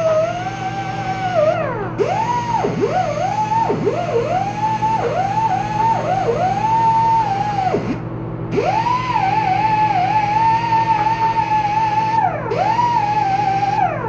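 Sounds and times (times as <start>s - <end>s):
air sanding tool whining: 0.0s - 14.0s
steady low hum: 0.0s - 14.0s.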